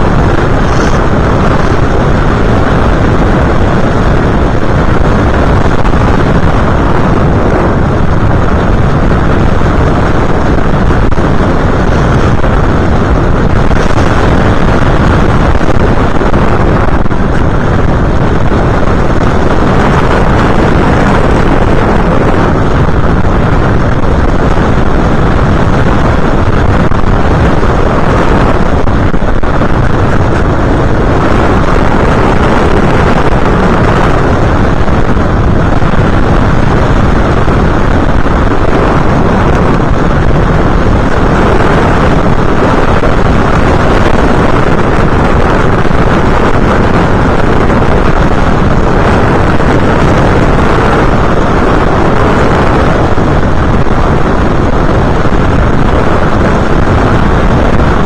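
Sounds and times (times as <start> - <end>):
aircraft motor noise: 0.0 - 58.0
wind rush: 0.0 - 58.0.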